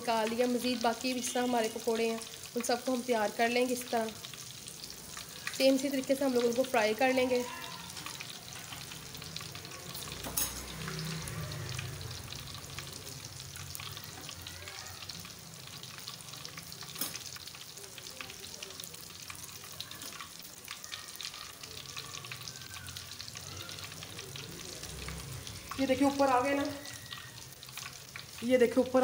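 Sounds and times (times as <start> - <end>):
food deep-frying with sizzle: 0.0 - 29.0.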